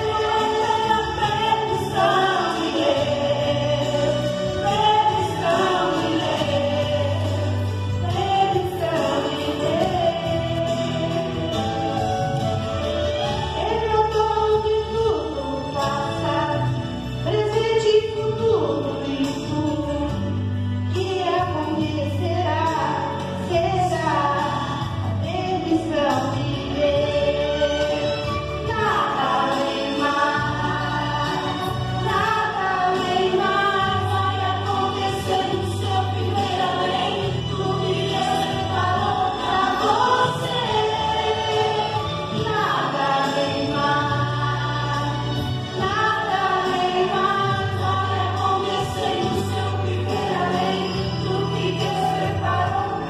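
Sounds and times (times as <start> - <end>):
women singing gospel song: 0.0 - 53.0.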